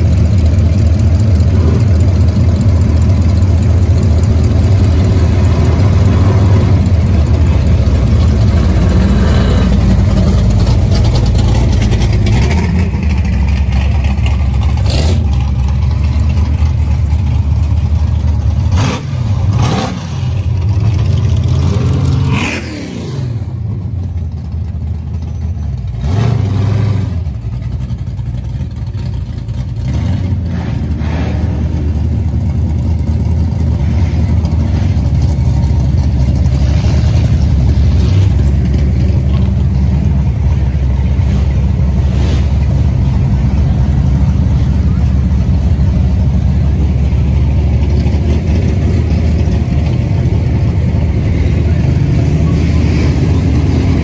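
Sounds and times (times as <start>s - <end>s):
classic car engines revving: 0.0s - 54.0s.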